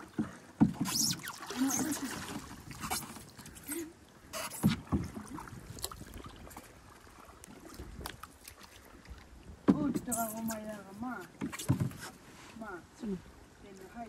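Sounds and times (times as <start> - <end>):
water splashes and drips: 0.0 - 12.1
paddle strokes in water: 0.0 - 12.7.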